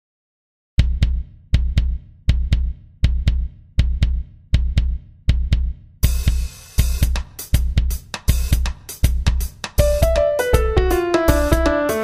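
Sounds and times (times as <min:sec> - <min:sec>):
bass drum beat: 0:00.8 - 0:12.0
drum kit with cymbals: 0:00.8 - 0:12.0.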